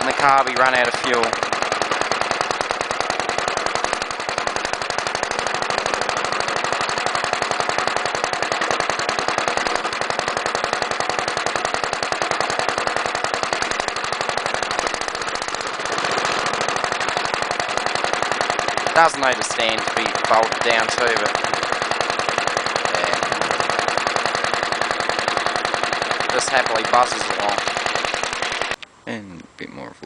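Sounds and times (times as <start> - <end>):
stationary engine running: 0.0 - 28.8.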